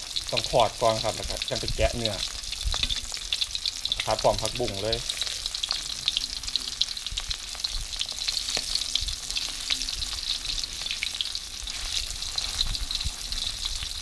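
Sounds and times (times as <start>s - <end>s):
oil sizzling and popping: 0.0s - 14.0s.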